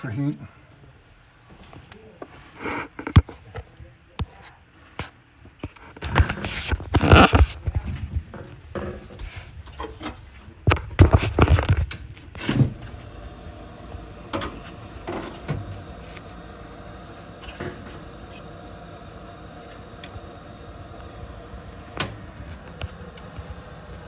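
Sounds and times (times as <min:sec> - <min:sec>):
furnace humming: 0:00.0 - 0:24.0.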